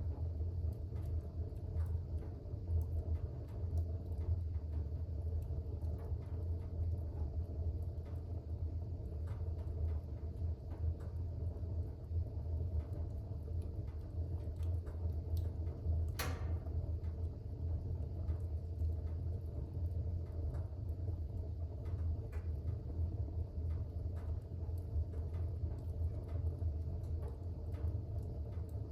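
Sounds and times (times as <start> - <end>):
fire crackles and pops: 0.0 - 28.9
fire rumbling in fireplace: 0.0 - 28.9.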